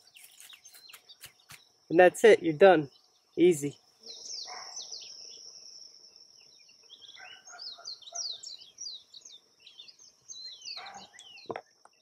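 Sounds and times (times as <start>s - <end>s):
birds chirping and calling: 0.0s - 12.0s
high insect trill: 0.0s - 12.0s.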